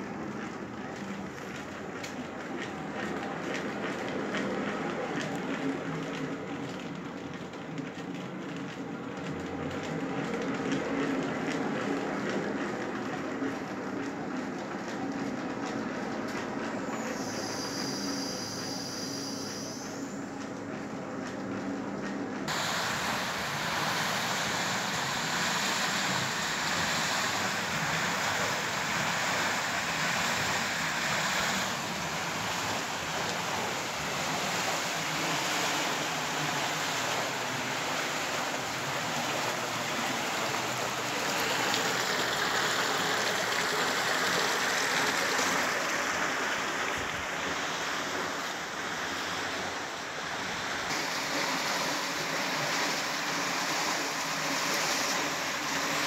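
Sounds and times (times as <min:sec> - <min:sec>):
water rushing through water wheel: 0:00.0 - 0:56.0.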